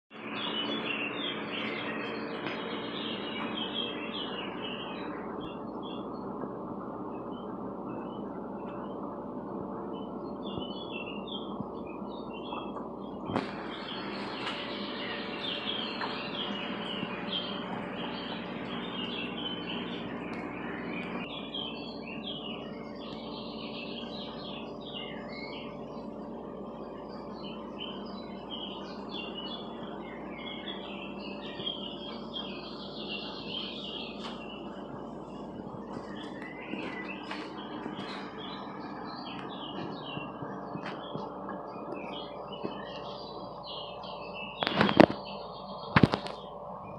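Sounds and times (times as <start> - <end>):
faint hum: 0.1 - 46.9
small birds chirping: 0.1 - 46.9.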